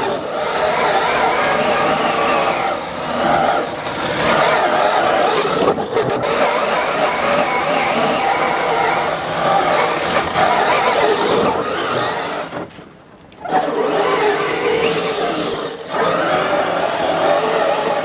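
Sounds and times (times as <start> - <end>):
rc car motor whining: 0.0 - 12.7, 13.4 - 18.0.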